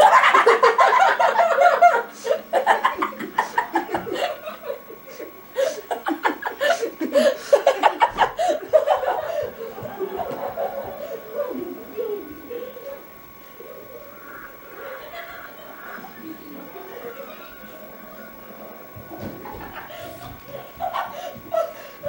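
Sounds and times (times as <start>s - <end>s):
boys laughing: 0.0s - 22.0s.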